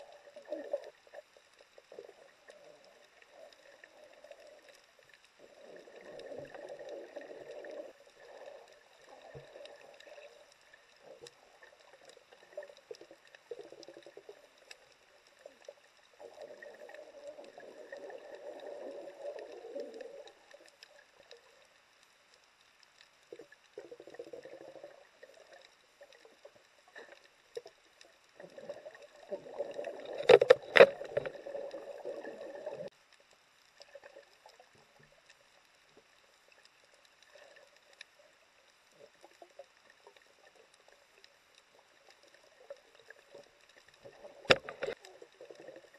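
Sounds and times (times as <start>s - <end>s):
water rushing underwater: 0.0s - 21.7s, 23.2s - 33.2s, 36.5s - 45.9s.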